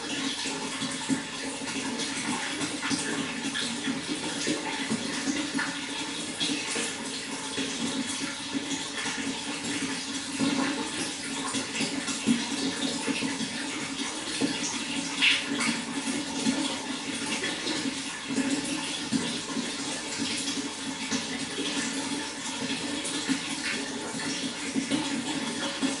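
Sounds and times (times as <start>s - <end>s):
water flowing: 0.0s - 26.0s.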